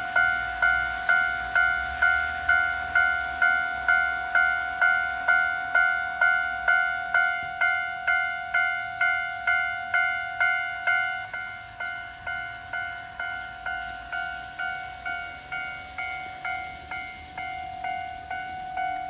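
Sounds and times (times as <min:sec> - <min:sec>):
level crossing bell ringing: 0:00.0 - 0:19.0.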